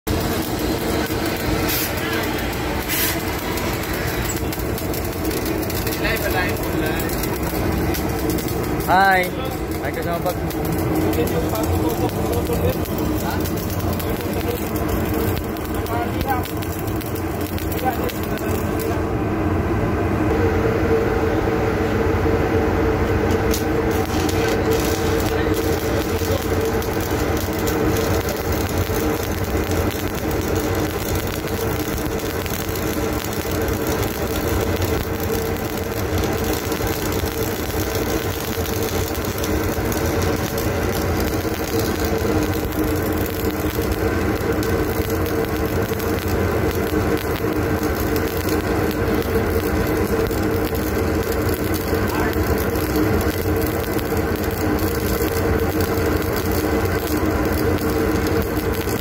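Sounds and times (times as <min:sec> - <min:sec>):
welding arc crackling: 0:00.0 - 0:19.4, 0:22.9 - 0:59.0
machine hum: 0:00.0 - 0:59.0.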